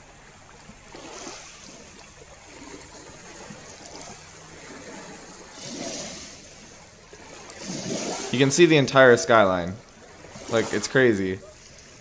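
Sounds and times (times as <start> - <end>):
waves washing on shore: 0.0 - 12.0
wind: 0.0 - 12.0.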